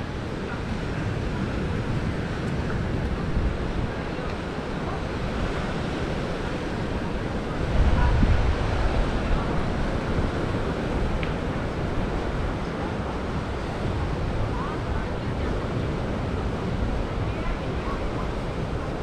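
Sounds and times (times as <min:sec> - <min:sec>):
sea surf washing on shore: 0:00.0 - 0:19.0
wind on microphone: 0:00.0 - 0:19.0.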